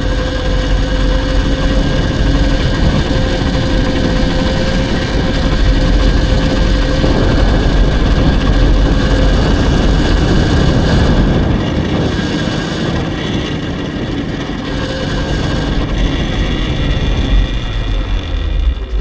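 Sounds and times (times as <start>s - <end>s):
electric motor whine: 0.0s - 19.0s
wind rumbling on microphone: 0.0s - 19.0s.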